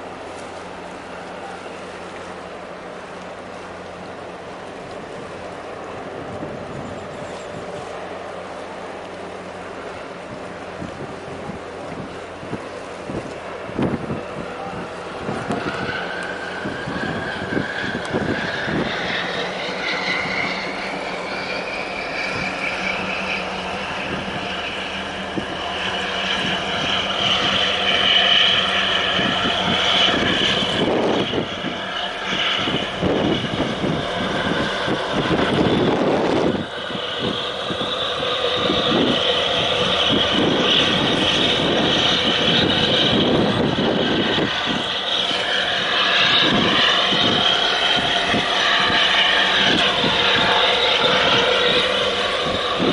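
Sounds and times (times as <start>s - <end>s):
engine drone rising in pitch: 0.0s - 52.9s.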